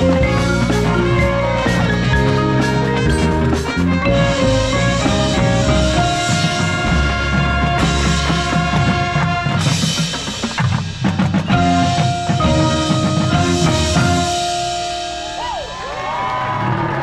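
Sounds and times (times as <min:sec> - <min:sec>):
brass horns holding chords: 0:00.0 - 0:10.4, 0:11.6 - 0:15.8
drums and percussion: 0:00.0 - 0:17.0.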